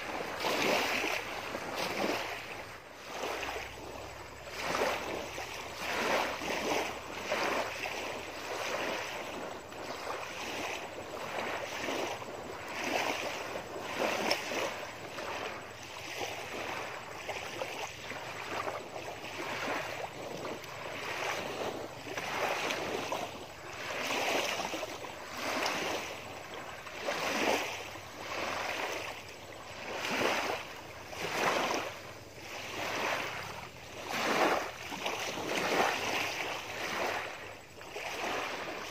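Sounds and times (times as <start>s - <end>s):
lake waves lapping on shore: 0.0s - 38.9s.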